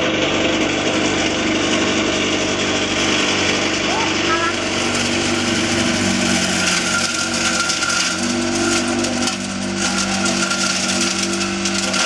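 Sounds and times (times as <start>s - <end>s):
grinder machine hum: 0.0s - 12.0s
branches chopping rattle: 0.6s - 12.0s.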